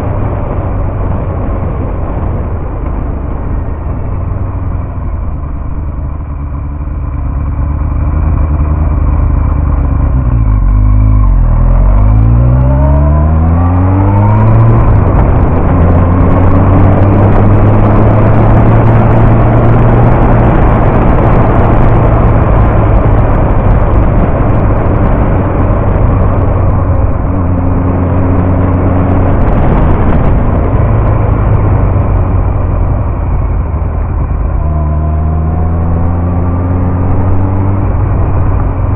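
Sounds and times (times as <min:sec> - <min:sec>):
wind rush: 0:00.0 - 0:07.4, 0:08.1 - 0:38.9
motorcycle engine accelerating: 0:00.0 - 0:38.9.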